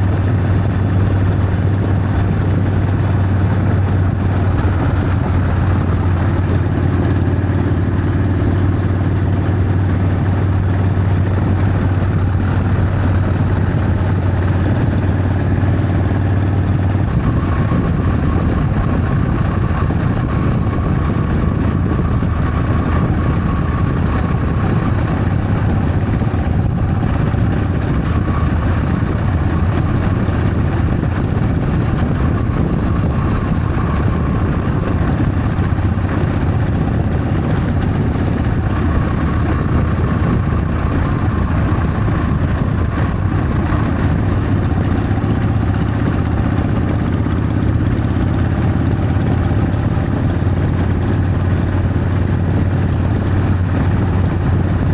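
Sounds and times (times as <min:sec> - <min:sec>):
motorcycle engine running: 0:00.0 - 0:54.9
wind noise: 0:00.0 - 0:54.9.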